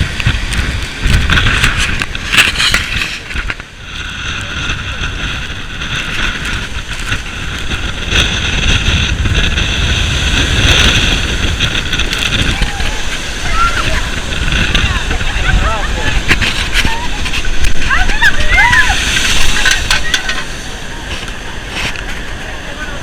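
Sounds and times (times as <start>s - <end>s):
rough churning sea: 0.0s - 23.0s
wind buffeting microphone: 0.0s - 23.0s.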